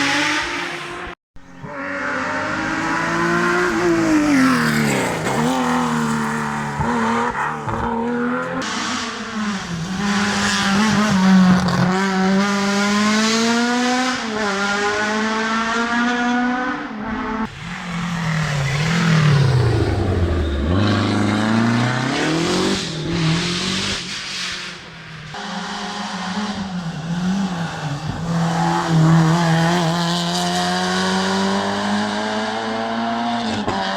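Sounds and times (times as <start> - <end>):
rally car engines revving: 0.0 - 33.9.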